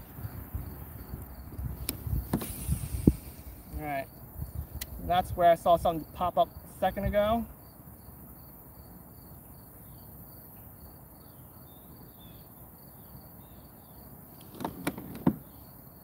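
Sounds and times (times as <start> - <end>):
insects chirping: 0.0 - 16.0
low outdoor hiss: 0.0 - 16.0.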